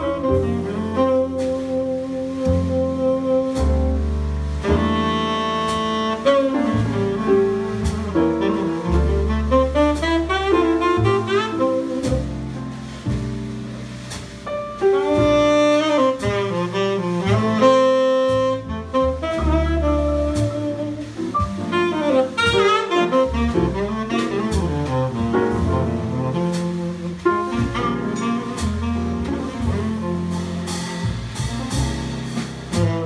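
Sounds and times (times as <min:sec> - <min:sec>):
tenor saxophone: 0:00.0 - 0:04.0, 0:04.8 - 0:12.2, 0:15.0 - 0:30.6
drums: 0:00.0 - 0:33.0
grand piano: 0:00.0 - 0:33.0
upright bass: 0:00.0 - 0:33.0.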